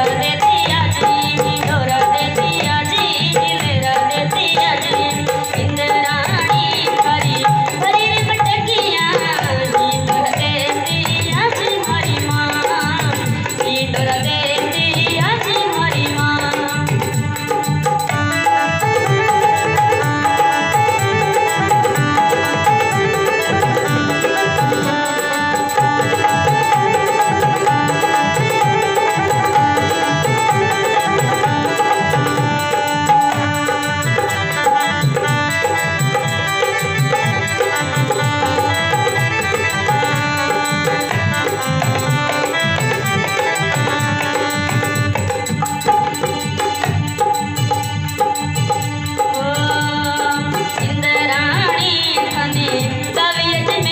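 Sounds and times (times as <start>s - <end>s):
hand drum rhythm: 0.0s - 53.9s
rattling percussion: 0.0s - 53.9s.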